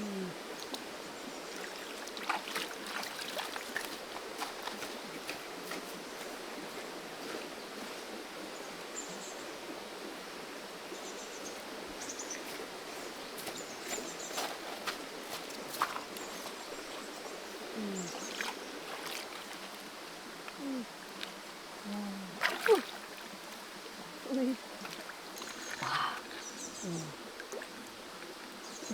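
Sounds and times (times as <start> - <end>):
creek water flowing: 0.0 - 28.9.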